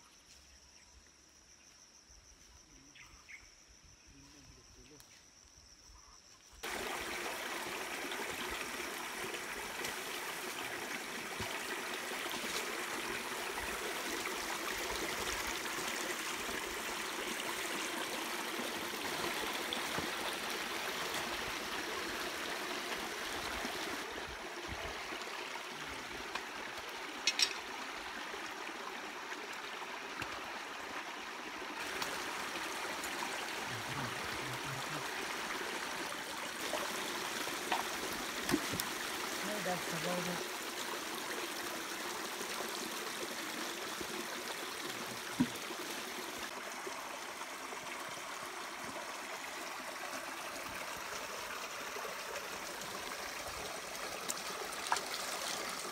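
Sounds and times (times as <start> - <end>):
creek running over rocks: 6.6 - 55.9.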